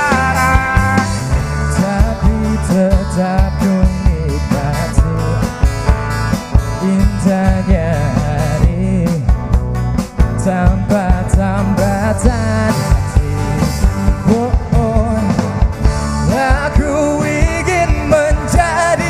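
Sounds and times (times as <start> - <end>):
rock band music with singing: 0.0 - 19.0.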